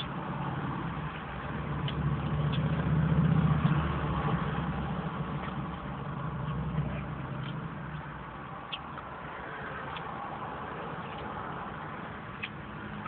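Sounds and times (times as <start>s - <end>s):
vehicle engine rumble passing: 0.0s - 13.0s.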